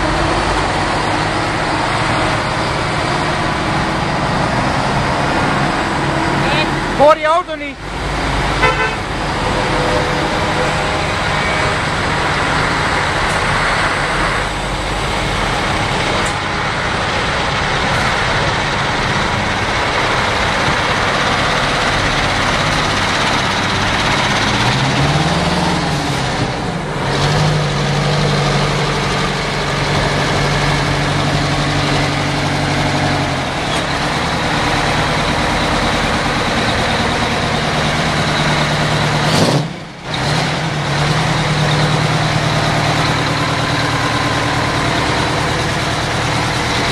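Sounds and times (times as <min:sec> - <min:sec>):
diesel truck engines pulling away: 0:00.0 - 0:46.9.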